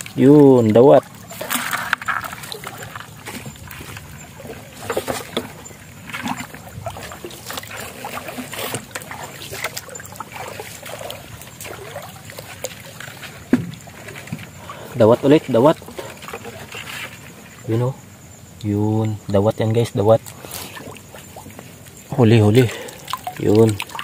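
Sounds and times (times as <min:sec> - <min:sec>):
wading through shallow water: 0:00.0 - 0:24.0.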